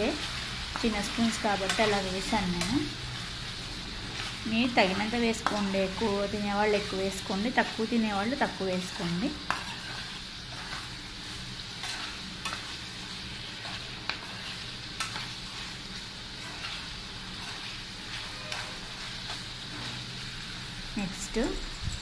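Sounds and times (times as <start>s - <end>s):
meat sizzling in oil: 0.0s - 21.8s
spoon scraping pan: 0.2s - 3.0s, 3.6s - 20.4s.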